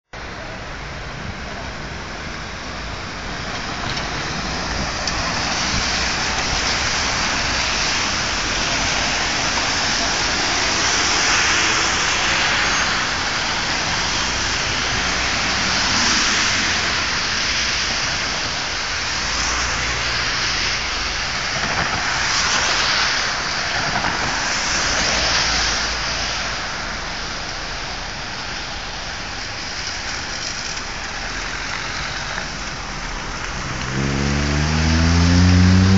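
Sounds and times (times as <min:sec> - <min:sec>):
car tyres on wet road: 0:00.2 - 0:35.9
rain hissing: 0:01.9 - 0:35.9.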